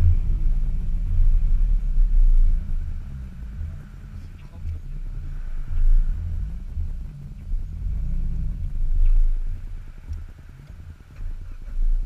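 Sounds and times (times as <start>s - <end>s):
engine and tyres rumbling: 0.0s - 12.0s
wind: 0.0s - 12.0s.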